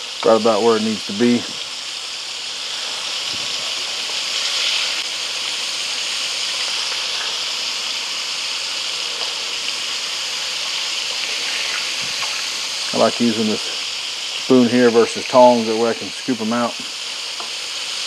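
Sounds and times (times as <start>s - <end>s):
meat deep-frying in oil: 0.0s - 18.0s.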